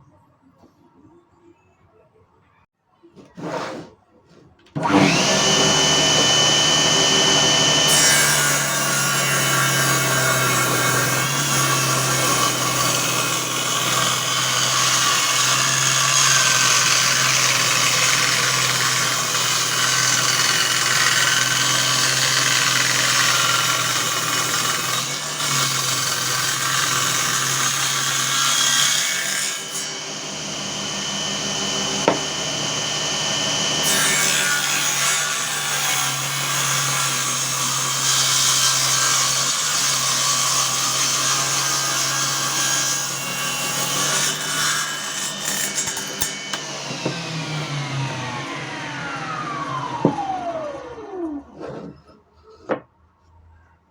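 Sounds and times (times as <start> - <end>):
circular saw whining: 4.8 - 52.2
circular saw cutting: 4.8 - 52.5.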